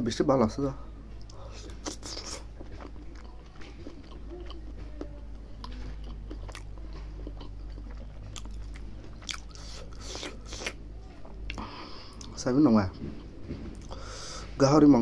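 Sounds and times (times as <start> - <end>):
man chewing with wet smacks: 1.2 - 14.1.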